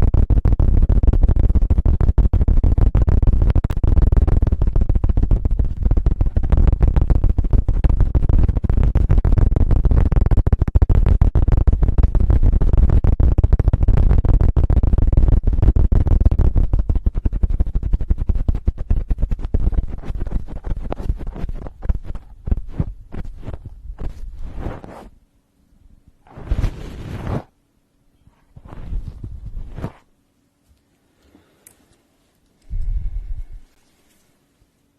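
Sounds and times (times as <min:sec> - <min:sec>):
hands flapping over microphone: 0:00.0 - 0:25.2, 0:26.2 - 0:27.5, 0:28.5 - 0:30.1.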